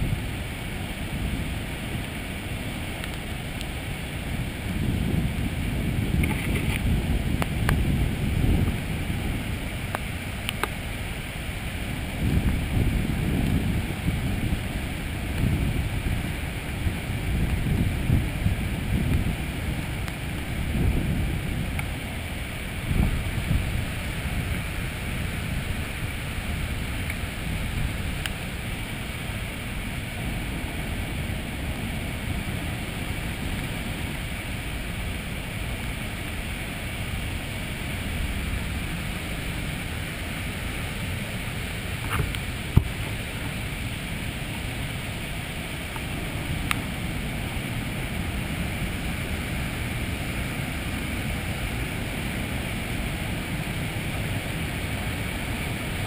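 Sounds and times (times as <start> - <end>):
waterfall rushing roar: 0.0 - 56.0.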